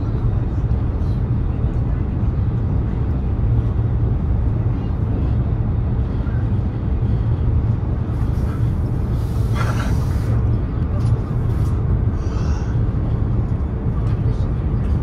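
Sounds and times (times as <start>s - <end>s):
train cabin rumble: 0.0s - 15.0s.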